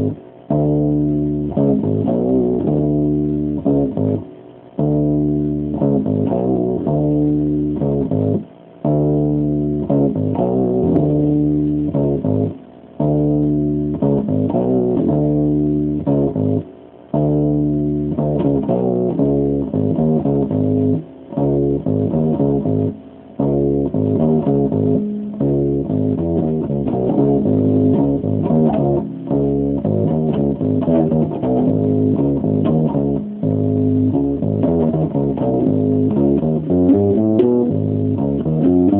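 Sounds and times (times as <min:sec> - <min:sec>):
electric bass guitar riffs: 0:00.0 - 0:38.9.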